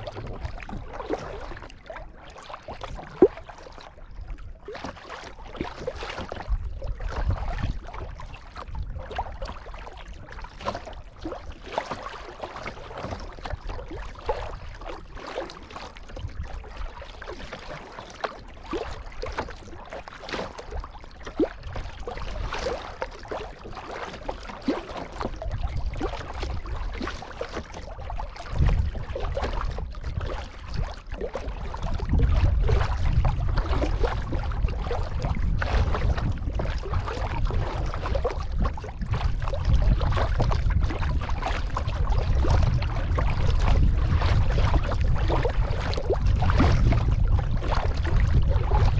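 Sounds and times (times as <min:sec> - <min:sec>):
paddle splashing in water: 0:00.0 - 0:48.9
water sloshing against hull: 0:00.0 - 0:48.9
wind rumble on microphone: 0:00.0 - 0:48.9.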